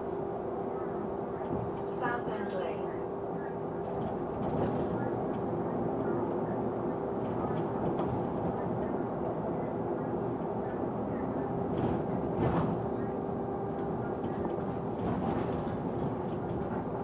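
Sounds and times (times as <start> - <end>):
steady bus whine: 0.0 - 17.0.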